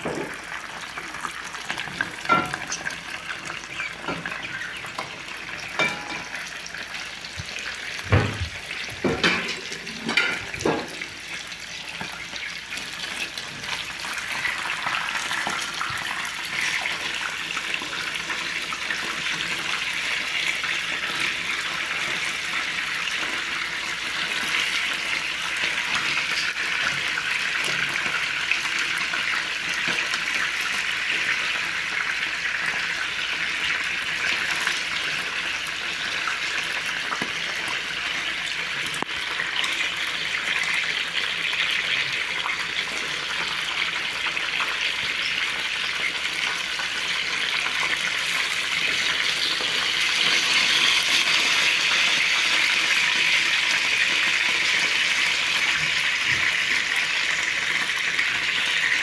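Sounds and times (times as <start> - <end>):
chicken frying in hot oil: 0.0 - 59.0.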